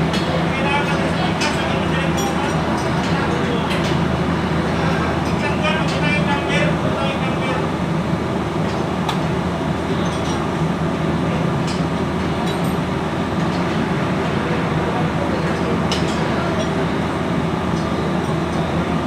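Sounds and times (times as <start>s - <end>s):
loud machinery drone: 0.0s - 19.0s.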